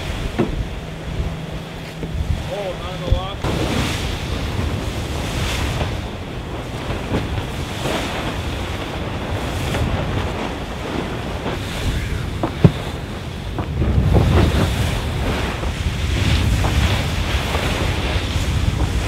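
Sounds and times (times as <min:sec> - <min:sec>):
sea water rushing past hull: 0:00.0 - 0:19.0
water surging: 0:00.0 - 0:19.0
wind buffeting microphone: 0:00.0 - 0:19.0.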